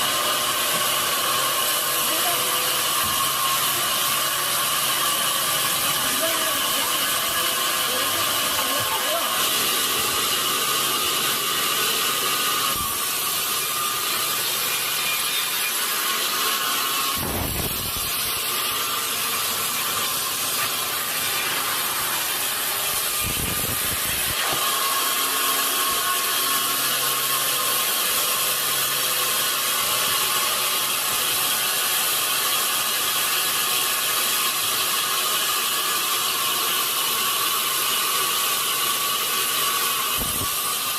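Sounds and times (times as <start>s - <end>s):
saw cutting through log: 0.0s - 40.9s.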